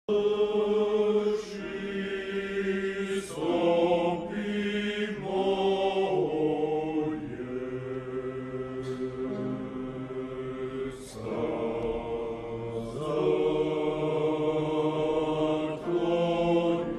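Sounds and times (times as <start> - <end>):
choir singing sustained chords: 0.1 - 16.9.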